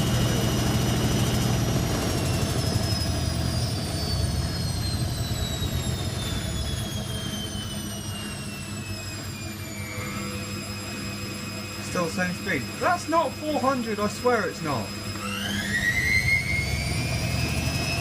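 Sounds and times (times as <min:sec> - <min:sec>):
washing machine spin slowing: 0:00.0 - 0:18.0.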